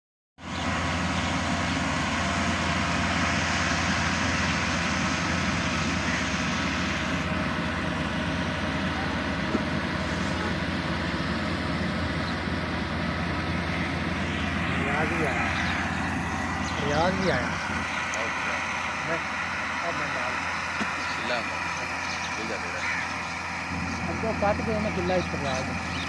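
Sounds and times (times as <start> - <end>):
combine harvester droning: 0.4 - 26.0.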